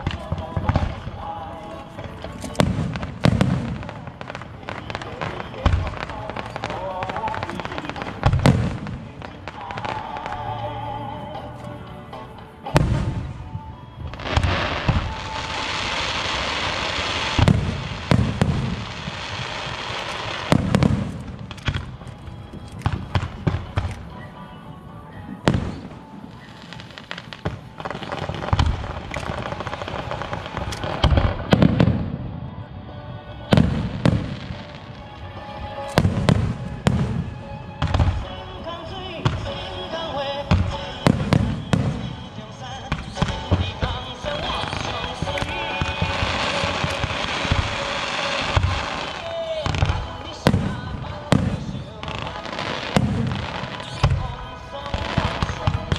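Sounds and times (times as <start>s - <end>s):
fireworks bangs and booms: 0.0s - 11.0s, 12.4s - 55.9s
fireworks crackling hiss: 0.0s - 55.9s.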